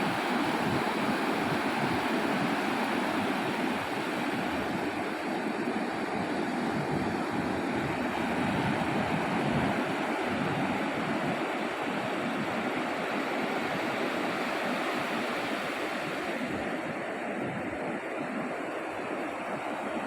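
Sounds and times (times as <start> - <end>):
surf washing on beach: 0.0 - 20.0.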